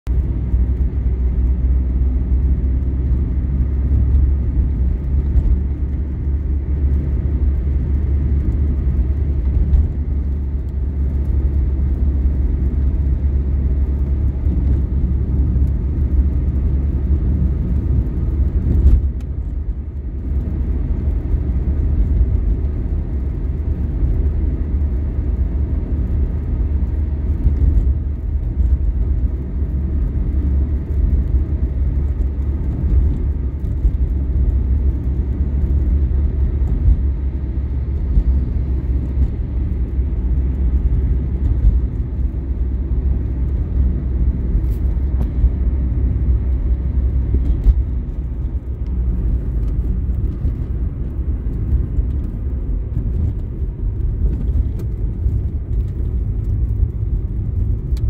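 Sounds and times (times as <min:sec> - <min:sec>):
car engine and tyre road noise: 0:00.0 - 0:58.0.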